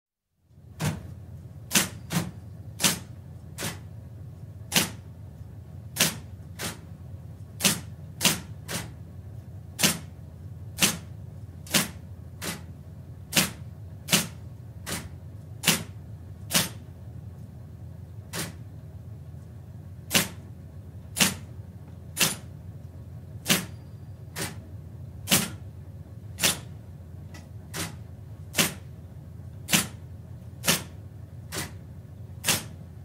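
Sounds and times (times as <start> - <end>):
typewriter motor hum: 0.8 - 3.9, 4.6 - 9.1, 9.7 - 17.5, 18.3 - 18.8, 19.4 - 22.6, 23.4 - 25.7, 26.3 - 33.0.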